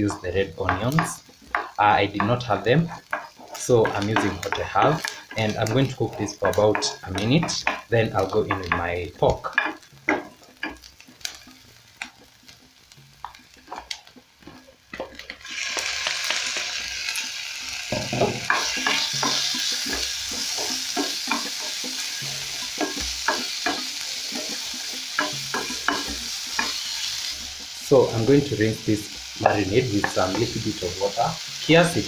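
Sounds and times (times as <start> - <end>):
wooden spatula scraping a pan: 0.0 - 31.0
meat sizzling in a pan: 0.0 - 32.0.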